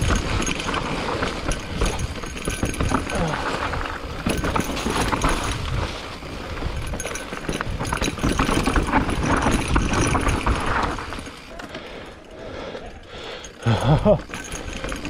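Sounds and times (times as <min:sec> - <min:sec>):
tyres rumbling on dirt and rock: 0:00.0 - 0:12.2, 0:13.3 - 0:15.0
bike rattling and clattering: 0:00.0 - 0:15.0.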